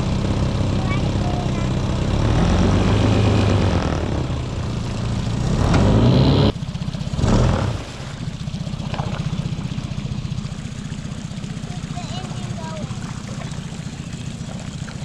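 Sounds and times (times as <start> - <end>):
churned water rush: 0.0 - 15.0
outboard motor running: 0.0 - 15.0.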